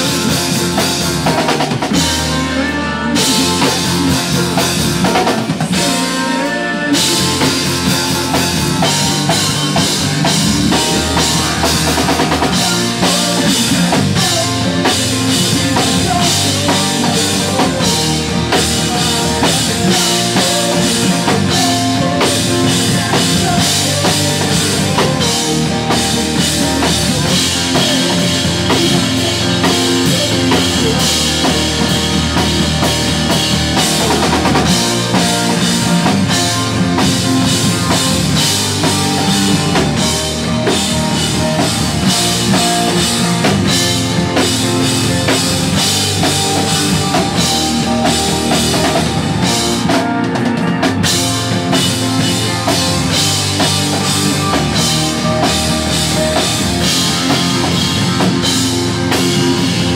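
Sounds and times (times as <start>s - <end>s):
pop-punk band playing live: 0.0s - 59.9s.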